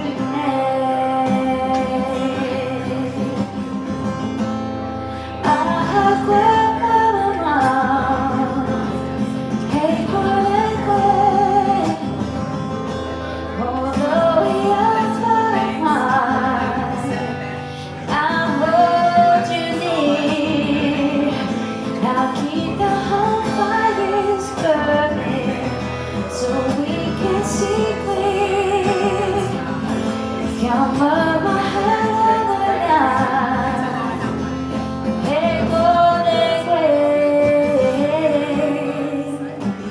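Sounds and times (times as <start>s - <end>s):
woman singing: 0.0s - 4.4s, 5.1s - 39.9s
acoustic guitar: 0.0s - 39.9s.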